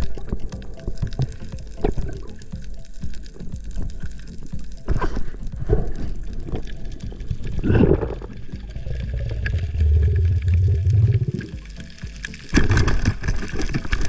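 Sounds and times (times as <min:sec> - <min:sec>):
low rumble: 0:00.0 - 0:11.6
bursts of bubbles: 0:00.0 - 0:14.0
water gurgling underwater: 0:00.0 - 0:14.0.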